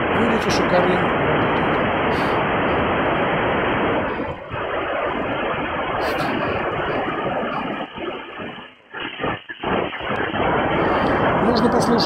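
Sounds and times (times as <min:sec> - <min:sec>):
radio static: 0:00.0 - 0:12.0.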